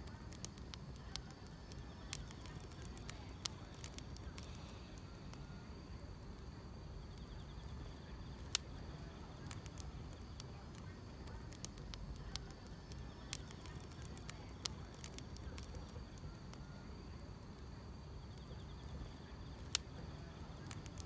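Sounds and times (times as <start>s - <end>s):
fire popping: 0.0s - 21.0s
insects chirping faintly: 0.0s - 21.0s
wood fire crackling: 0.0s - 21.0s.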